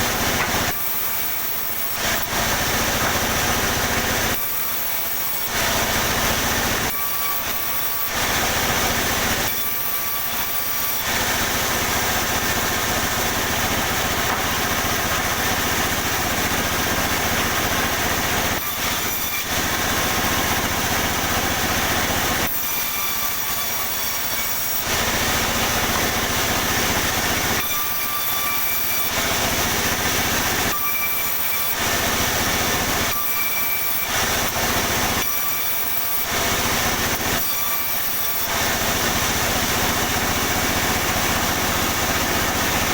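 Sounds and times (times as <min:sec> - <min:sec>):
saw cutting wood boards: 0:00.0 - 0:42.9.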